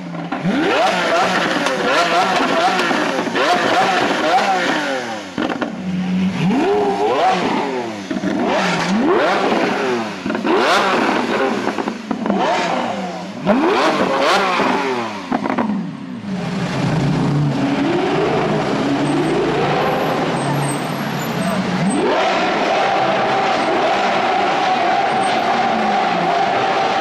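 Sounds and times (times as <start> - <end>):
sports car engine revving: 0.2 - 27.0.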